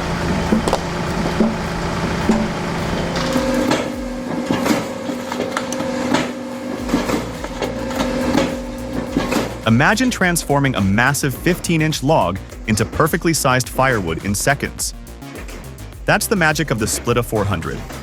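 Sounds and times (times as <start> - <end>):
wood splitter motor hum: 0.0 - 18.0.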